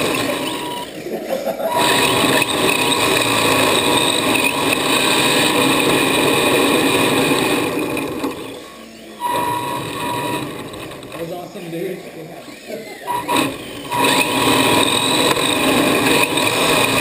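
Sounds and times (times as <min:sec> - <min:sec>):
toy car electric motor whining: 0:00.0 - 0:17.0.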